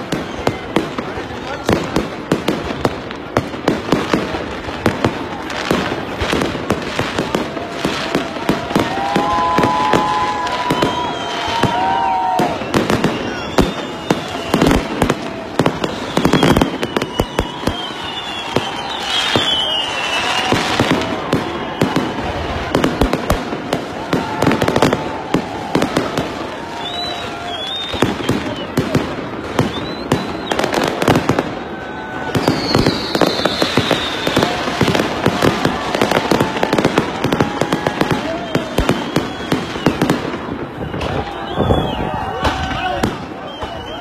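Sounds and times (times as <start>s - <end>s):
falling firework whistle: 0.0s - 2.0s, 4.1s - 44.0s
fireworks bangs and crackles: 0.0s - 44.0s.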